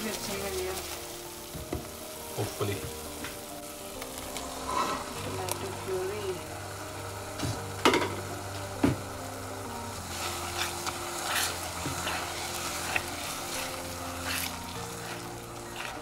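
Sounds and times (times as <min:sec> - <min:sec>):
puree sizzling in hot oil: 0:00.0 - 0:16.0.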